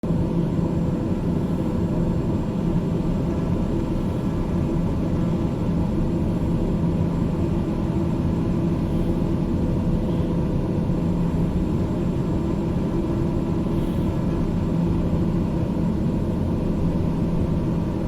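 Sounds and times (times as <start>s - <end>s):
airliner engines droning: 0.0s - 18.0s
constant hum tones: 0.0s - 18.0s.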